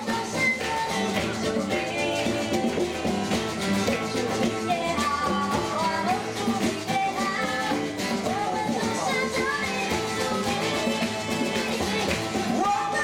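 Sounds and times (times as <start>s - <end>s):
acoustic guitar: 0.0s - 13.0s
woman singing into a microphone: 0.0s - 13.0s.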